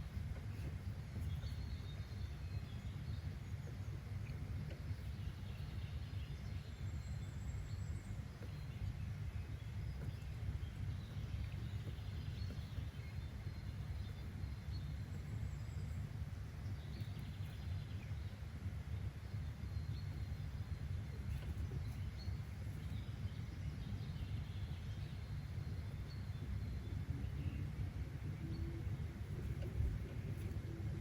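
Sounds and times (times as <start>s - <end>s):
faint bird chirps: 0.0s - 31.0s.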